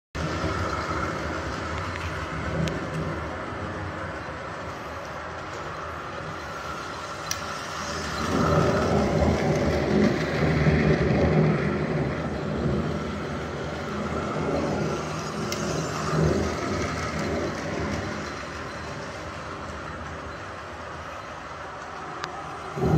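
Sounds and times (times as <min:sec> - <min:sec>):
model train rumbling on track: 0:00.2 - 0:22.9.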